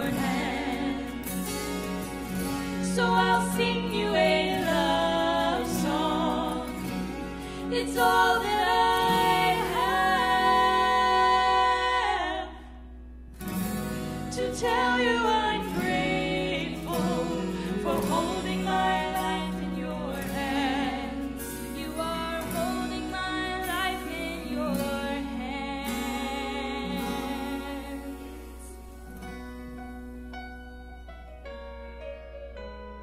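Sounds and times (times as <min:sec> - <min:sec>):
women singing worship song: 0:00.0 - 0:12.8, 0:14.2 - 0:29.0.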